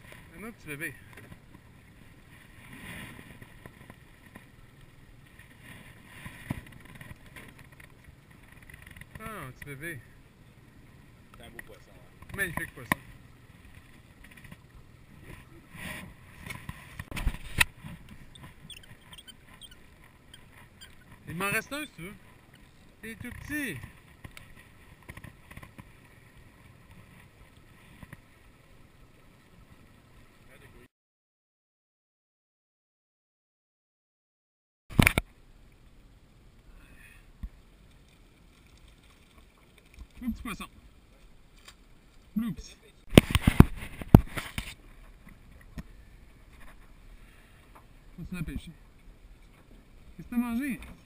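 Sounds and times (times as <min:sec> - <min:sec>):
water around boat: 0:00.0 - 0:30.9, 0:34.9 - 0:51.0
wind: 0:00.0 - 0:30.9, 0:34.9 - 0:51.0.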